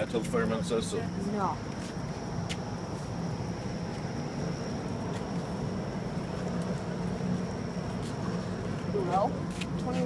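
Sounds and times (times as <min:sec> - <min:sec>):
high-pitched whine: 0:00.0 - 0:10.0
low mechanical hum: 0:00.0 - 0:10.0.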